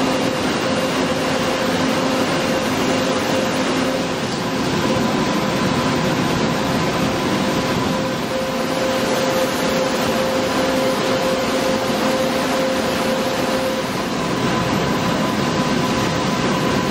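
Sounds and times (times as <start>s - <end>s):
coolant spraying with hum: 0.0s - 16.9s
high spindle tone: 0.0s - 16.9s.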